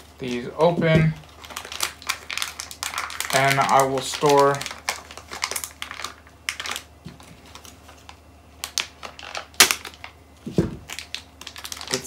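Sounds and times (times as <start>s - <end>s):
plastic bag crinkling: 0.0s - 12.0s
plastic packaging clicks: 1.2s - 10.2s, 10.8s - 12.0s.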